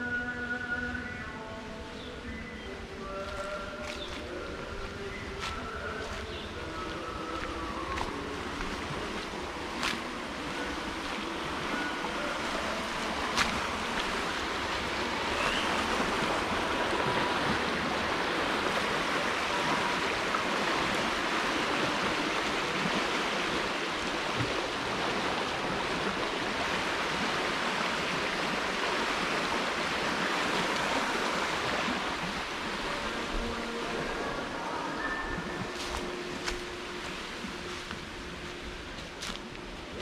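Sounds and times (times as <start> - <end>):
river flowing over rocks: 0.0 - 40.0.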